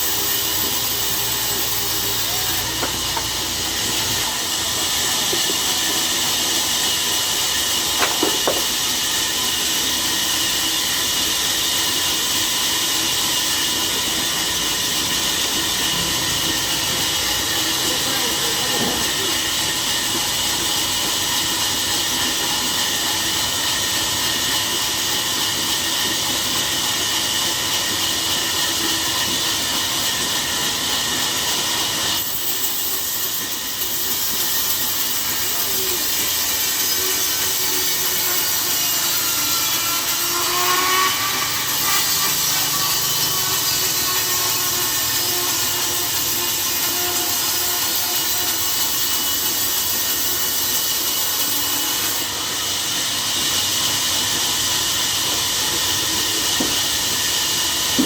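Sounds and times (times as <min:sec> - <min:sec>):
saw blade cutting through log: 0:00.0 - 0:58.0.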